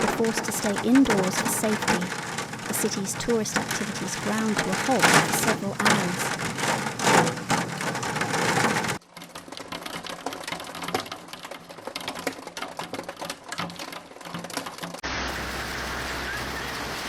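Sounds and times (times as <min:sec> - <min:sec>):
hailstones rattling on hard surface: 0:00.0 - 0:17.0
heavy rain falling: 0:00.0 - 0:17.0.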